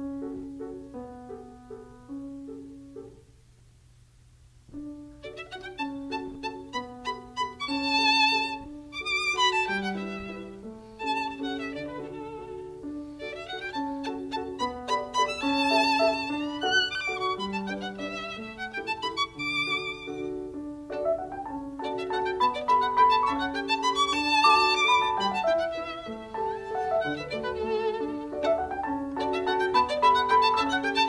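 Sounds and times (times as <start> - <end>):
violin background music: 4.8 - 31.0.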